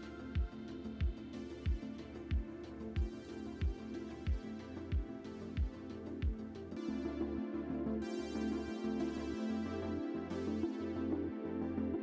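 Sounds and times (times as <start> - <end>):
electronic synthesizer music: 0.0 - 12.0.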